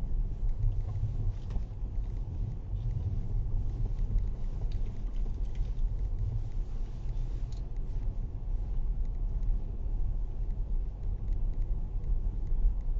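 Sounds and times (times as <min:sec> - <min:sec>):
car engine and tyres rumbling: 0:00.0 - 0:12.9
faint scattered ticks: 0:00.1 - 0:12.9.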